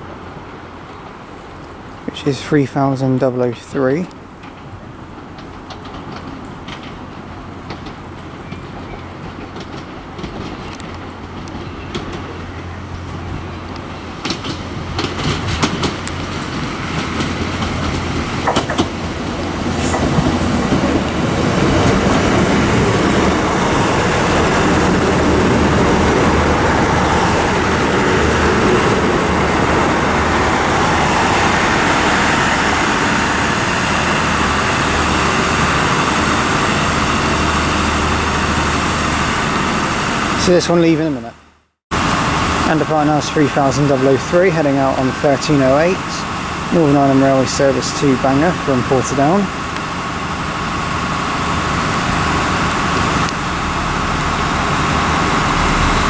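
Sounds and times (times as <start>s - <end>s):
train engine and rolling noise: 0.0s - 56.0s.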